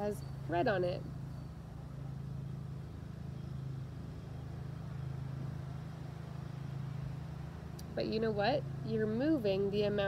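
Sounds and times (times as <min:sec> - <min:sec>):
engine running steadily: 0:00.0 - 0:10.0.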